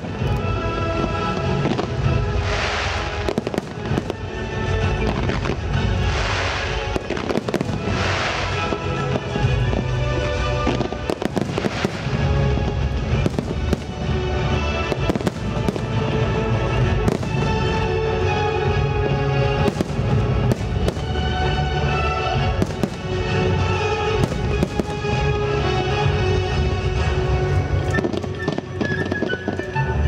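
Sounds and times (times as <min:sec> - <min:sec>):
fireworks bursting in bangs: 0:00.0 - 0:26.4, 0:27.9 - 0:30.0
music with long held notes: 0:00.0 - 0:30.0.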